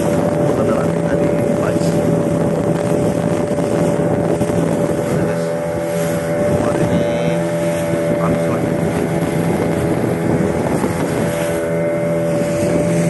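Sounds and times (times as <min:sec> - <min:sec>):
boat engine droning: 0:00.0 - 0:13.0
water rushing past hull: 0:00.0 - 0:13.0.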